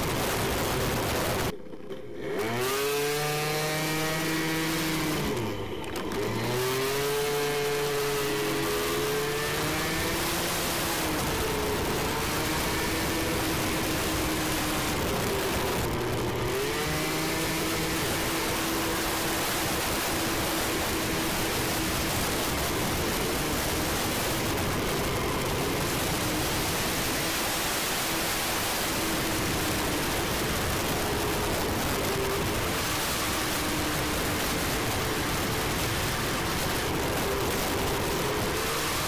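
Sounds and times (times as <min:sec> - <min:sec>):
wind noise on microphone: 0:00.0 - 0:01.5, 0:02.3 - 0:39.0
scooter engine running: 0:00.0 - 0:39.0.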